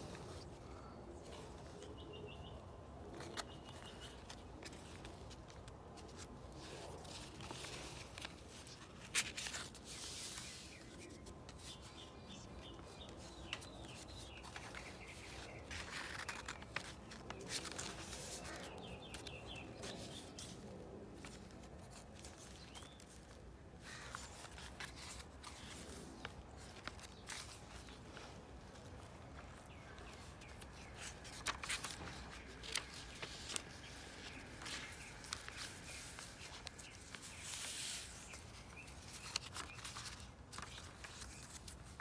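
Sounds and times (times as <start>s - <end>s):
paper pages rustling: 0.0s - 42.0s.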